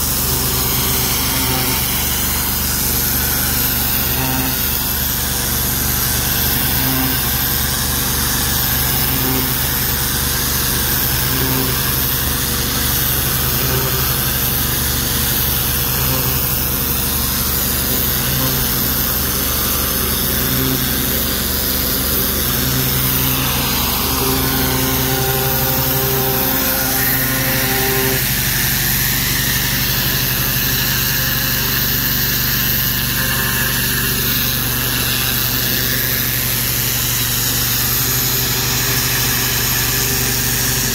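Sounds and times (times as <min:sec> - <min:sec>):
pressure washer engine running: 0:00.0 - 0:40.9
water jet hissing on wall: 0:00.0 - 0:40.9.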